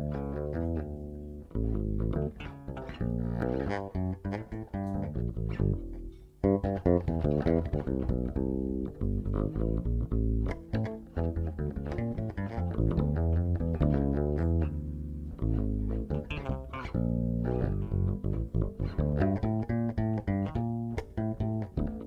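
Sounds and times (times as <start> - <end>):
electric bass guitar: 0.0 - 22.0
guitar plucked notes: 0.0 - 22.0.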